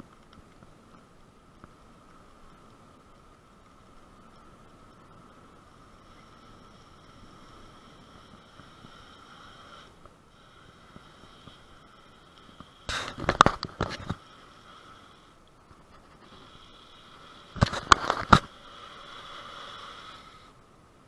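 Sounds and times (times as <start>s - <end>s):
bicycle rolling with faint whine: 0.0s - 21.0s.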